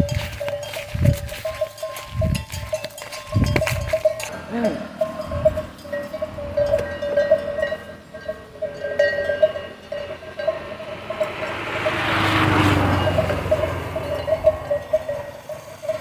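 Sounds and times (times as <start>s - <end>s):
cow bell clanking: 0.0s - 16.0s
motor vehicle passing: 0.0s - 16.0s.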